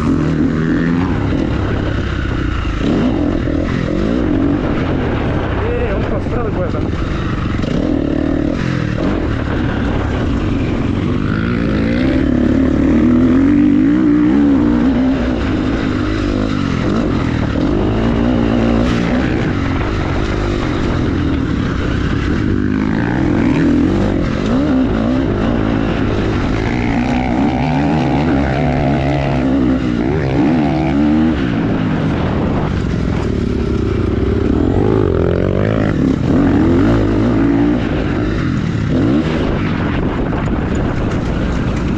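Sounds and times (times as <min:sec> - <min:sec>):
motorcycle engine revving: 0:00.0 - 0:41.9
steady rushing noise: 0:00.0 - 0:41.9.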